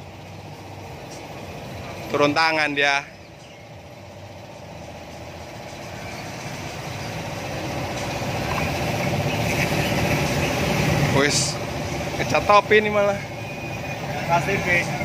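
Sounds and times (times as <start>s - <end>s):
engine running with low hum: 0.0s - 15.0s.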